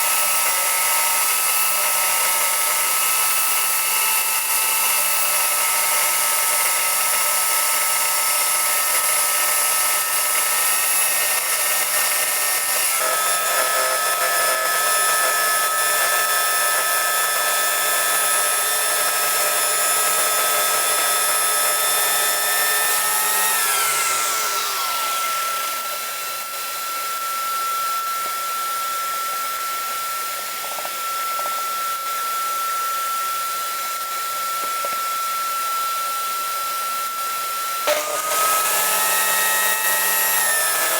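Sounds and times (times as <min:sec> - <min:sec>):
power tool motor whining: 0:00.0 - 0:40.9.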